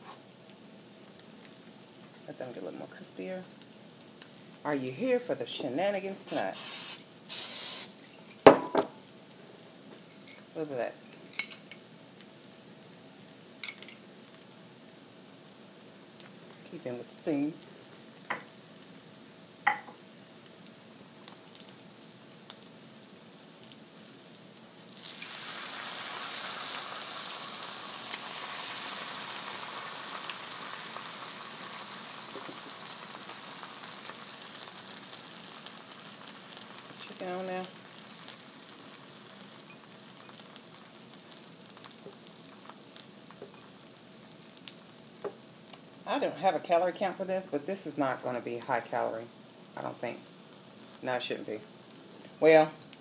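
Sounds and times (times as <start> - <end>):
food sizzling on griddle: 0.0 - 53.0.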